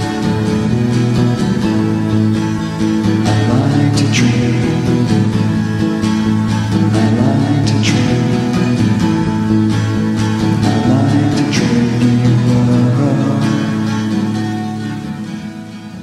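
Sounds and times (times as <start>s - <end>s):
indie pop band with strummed guitar: 0.0s - 16.0s.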